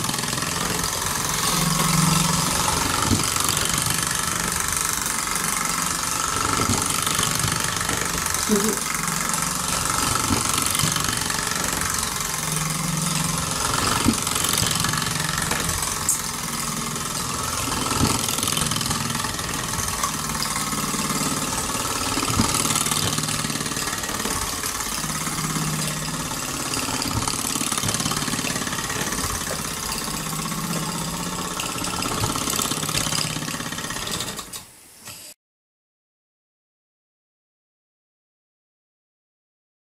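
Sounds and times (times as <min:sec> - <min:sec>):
small steam engine running: 0:00.0 - 0:35.3.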